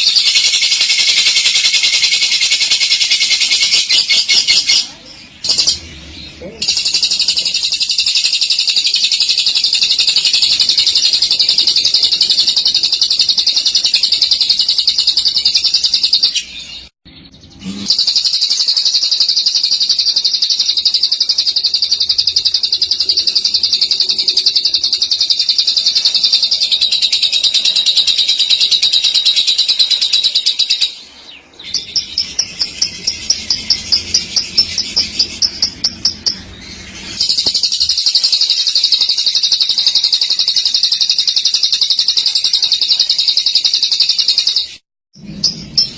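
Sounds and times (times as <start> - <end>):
lovebird chattering trills: 0.0 - 16.5, 17.6 - 44.8
sharp bird chirps: 0.0 - 45.9.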